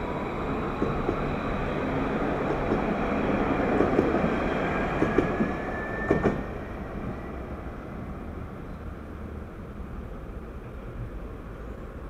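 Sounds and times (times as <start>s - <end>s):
tram rumbling and whining: 0.0s - 12.0s.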